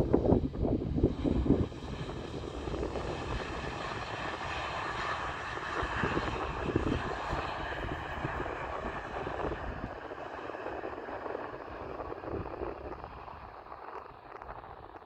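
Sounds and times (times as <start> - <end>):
jet engines rushing: 0.0 - 15.0
wind rumbling on microphone: 0.0 - 15.0.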